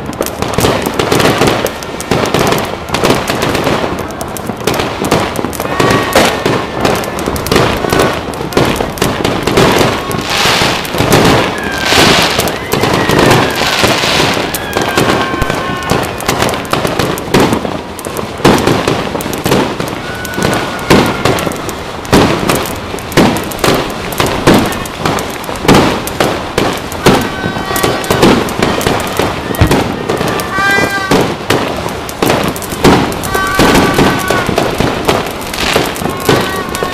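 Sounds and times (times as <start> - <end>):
fireworks bangs and crackling pops: 0.0 - 36.9
falling firework whistles: 5.6 - 17.6, 18.5 - 36.9.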